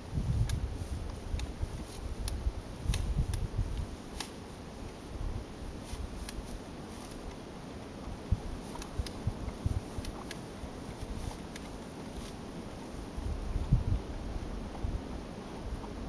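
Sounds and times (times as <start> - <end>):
horses chewing hay: 0.1 - 16.0.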